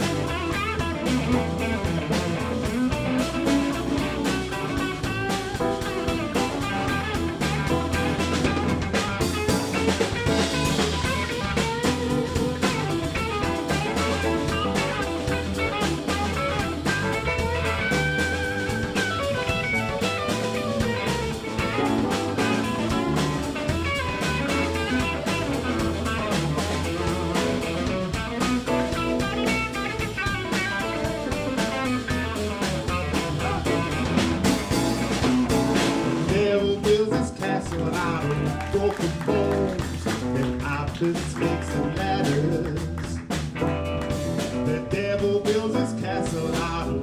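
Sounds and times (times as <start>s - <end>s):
bass and drum kit: 0.0s - 47.0s
blues guitar lead: 0.0s - 47.0s.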